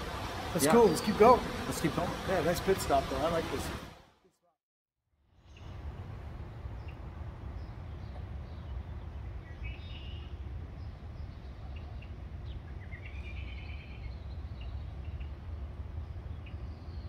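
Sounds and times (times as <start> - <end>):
songbirds chirping: 0.4 - 3.6, 5.4 - 17.0.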